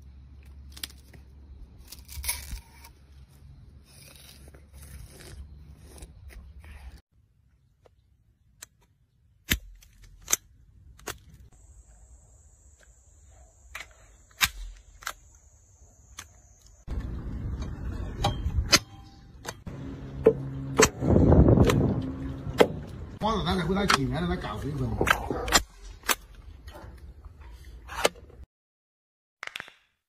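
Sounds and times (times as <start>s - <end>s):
outdoor background noise: 0.0s - 28.5s.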